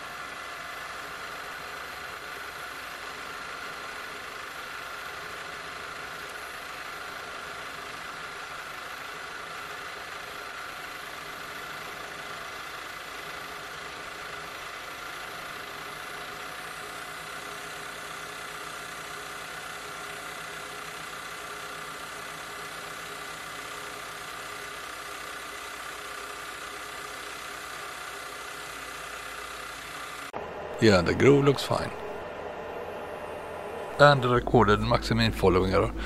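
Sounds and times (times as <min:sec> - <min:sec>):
milling machine whine and hum: 0:00.0 - 0:36.0.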